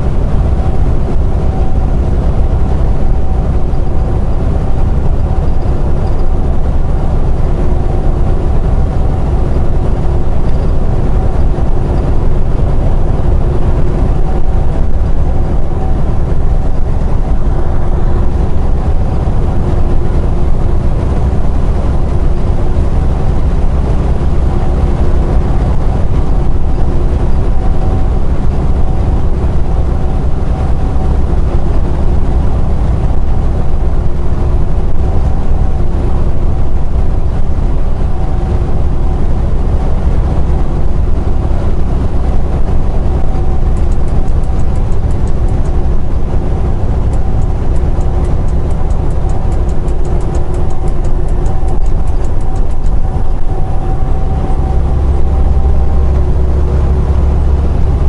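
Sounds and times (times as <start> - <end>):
faint steady hum: 0.0 - 58.0
truck diesel engine droning: 0.0 - 58.0.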